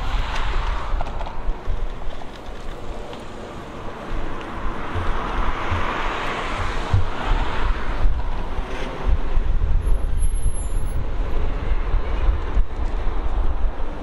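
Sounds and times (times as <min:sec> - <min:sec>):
car driving slowly: 0:00.0 - 0:14.0
street traffic: 0:00.0 - 0:14.0
wind buffeting microphone: 0:00.0 - 0:14.0.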